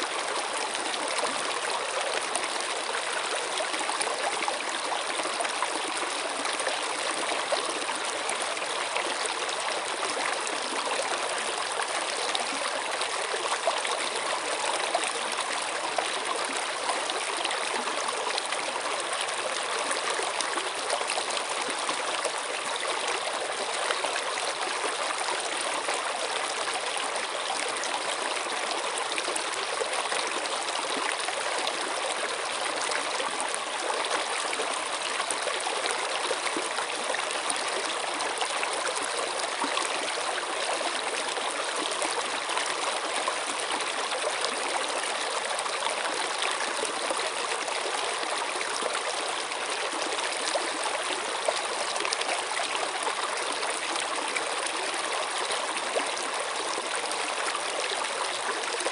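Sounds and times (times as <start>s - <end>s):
stream babbling: 0.0s - 58.9s.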